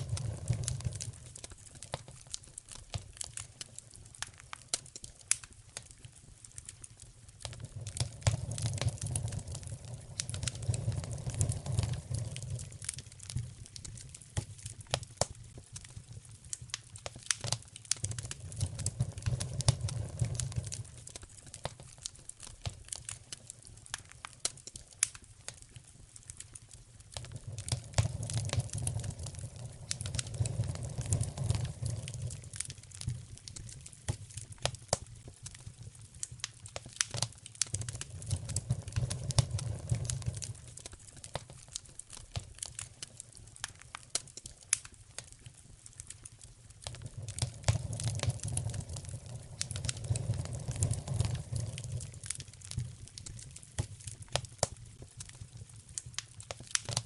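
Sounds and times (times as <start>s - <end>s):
sharp fire pops: 0.0s - 57.0s
wood fire crackling: 0.0s - 57.0s.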